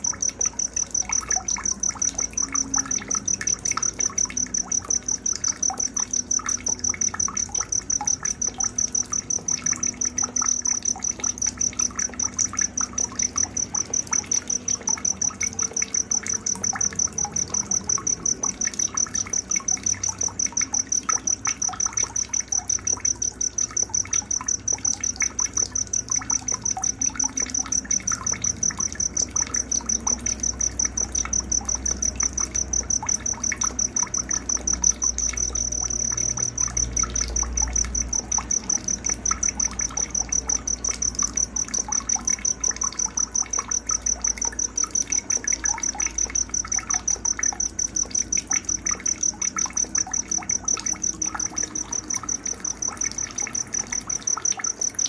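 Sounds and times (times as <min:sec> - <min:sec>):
cricket chirping steadily: 0:00.0 - 0:55.0.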